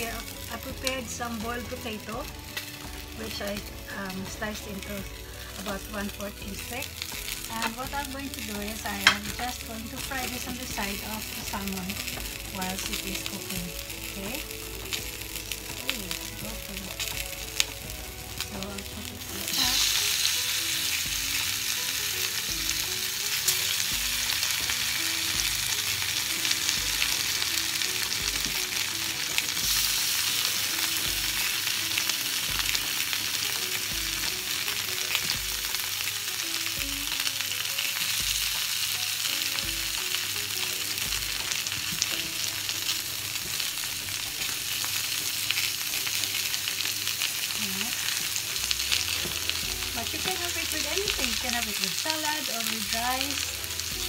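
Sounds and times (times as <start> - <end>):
food frying in hot oil: 0.0 - 54.0.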